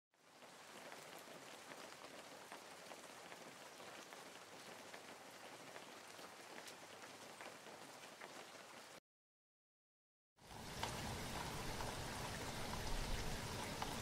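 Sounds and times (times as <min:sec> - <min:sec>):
light rain patter: 0:00.1 - 0:09.0, 0:10.4 - 0:14.0.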